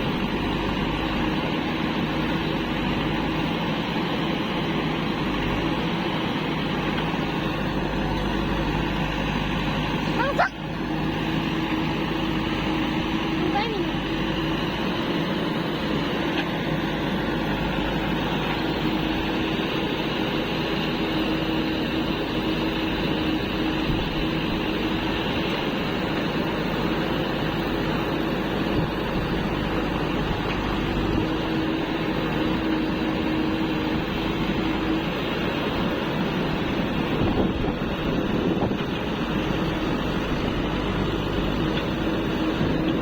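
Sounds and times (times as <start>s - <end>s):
diesel engines running: 0.0s - 43.0s.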